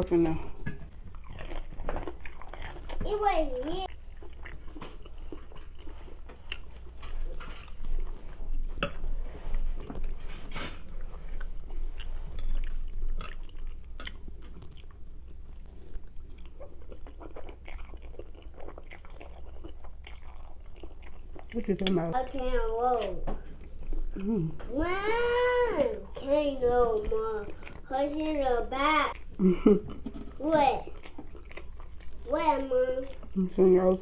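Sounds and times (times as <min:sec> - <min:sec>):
person chewing food: 0:00.5 - 0:34.0.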